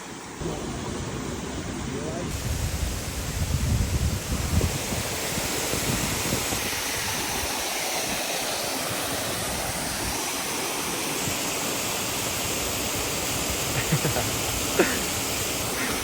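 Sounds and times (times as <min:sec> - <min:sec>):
water pouring over waterfall: 0:02.3 - 0:16.0.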